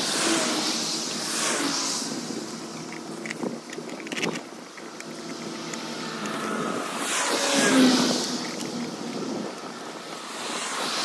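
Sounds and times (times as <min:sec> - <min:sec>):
road vehicles passing: 0:00.0 - 0:11.0.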